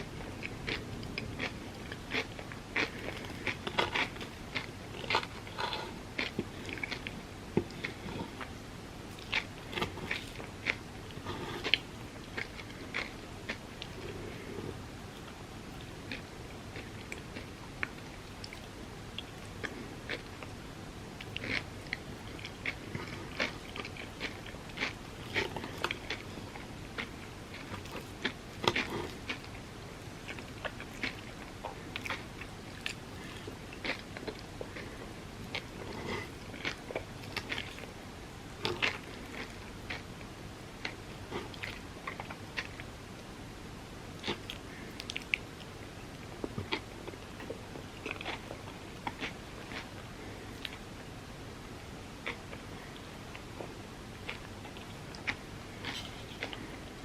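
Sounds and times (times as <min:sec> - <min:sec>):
chewing and biting food: 0:00.0 - 0:14.5, 0:15.1 - 0:20.5, 0:21.2 - 0:38.0, 0:38.6 - 0:40.2, 0:40.8 - 0:42.9, 0:44.2 - 0:45.4, 0:46.2 - 0:50.9, 0:52.2 - 0:56.8.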